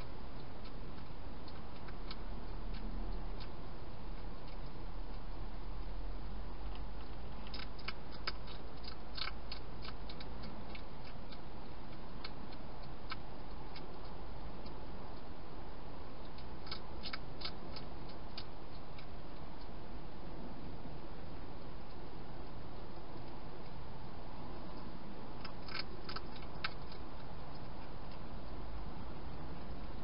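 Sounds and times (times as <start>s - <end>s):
hedgehog crunching dry food: 0.0s - 30.0s
steady hiss and low hum: 0.0s - 30.0s.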